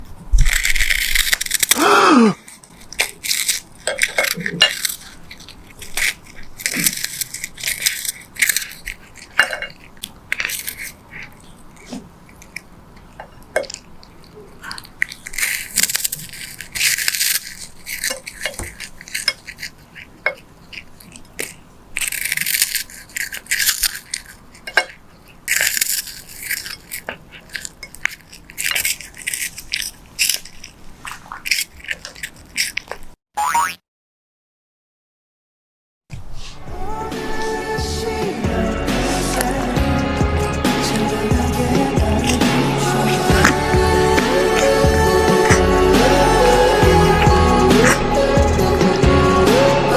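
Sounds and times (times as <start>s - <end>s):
cat licking and biting lollipop: 0.3s - 33.1s, 38.6s - 49.1s.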